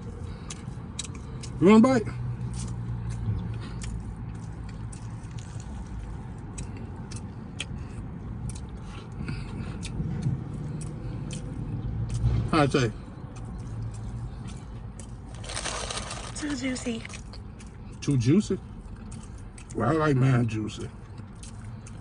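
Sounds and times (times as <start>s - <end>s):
person chewing crunchy food: 0.0s - 1.6s, 2.2s - 20.0s, 20.7s - 22.0s.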